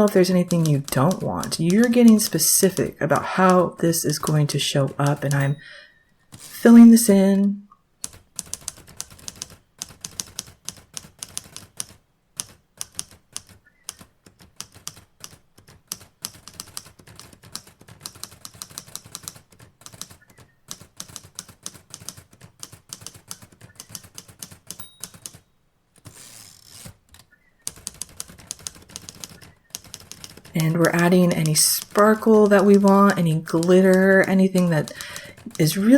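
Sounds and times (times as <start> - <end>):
typewriter keys clacking: 0.0 - 5.6, 8.0 - 35.9.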